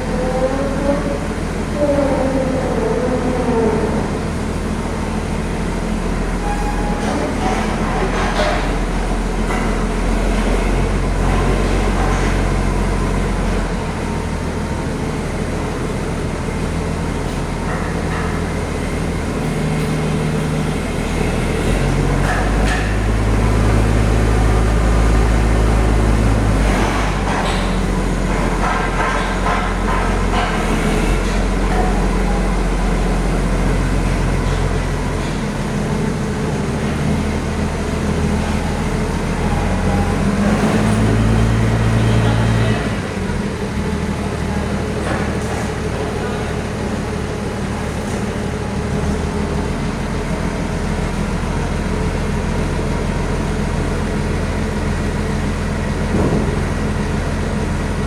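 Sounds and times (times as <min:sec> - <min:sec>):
heavy vehicle engine running: 0:00.0 - 0:58.0.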